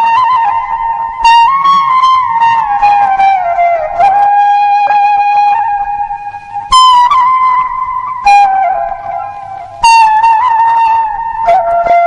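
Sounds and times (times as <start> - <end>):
flute-like melody: 0.0 - 12.0.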